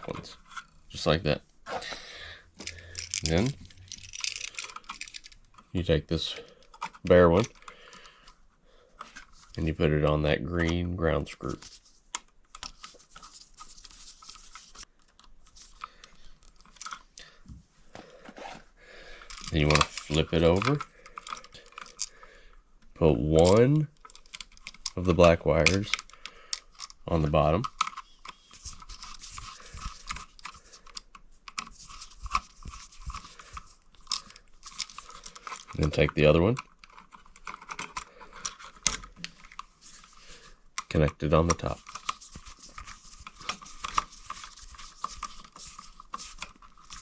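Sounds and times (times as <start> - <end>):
wire clicking and scraping: 2.5 - 9.7, 11.4 - 17.3, 18.0 - 47.0.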